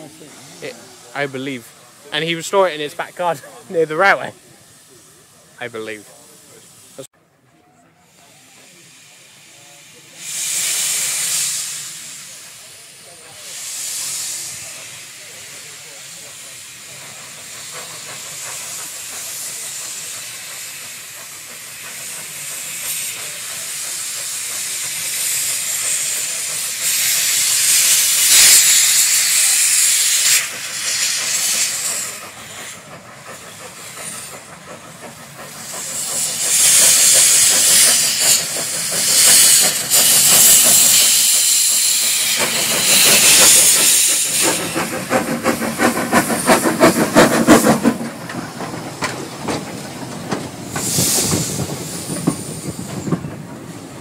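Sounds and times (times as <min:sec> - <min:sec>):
steam locomotive exhaust beats: 0:00.0 - 0:54.0
steam locomotives hissing: 0:00.0 - 0:54.0.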